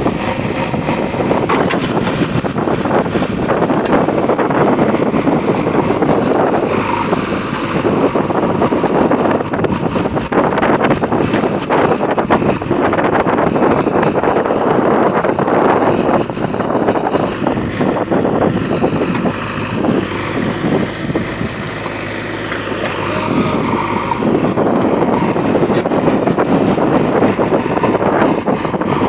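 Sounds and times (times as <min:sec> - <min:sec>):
diesel engine running: 0:00.0 - 0:29.0
wind buffeting microphone: 0:00.0 - 0:29.0.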